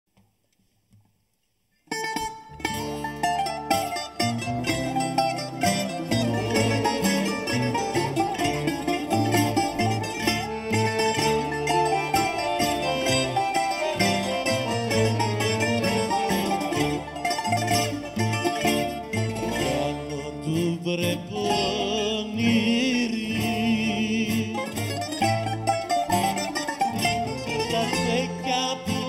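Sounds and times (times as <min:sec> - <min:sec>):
bouzouki ensemble playing: 0:01.9 - 0:29.0
double bass notes: 0:02.0 - 0:29.0.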